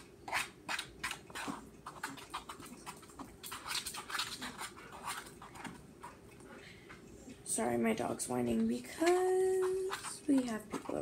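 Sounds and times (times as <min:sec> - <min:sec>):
spoon stirring squelching slime: 0:00.0 - 0:11.0.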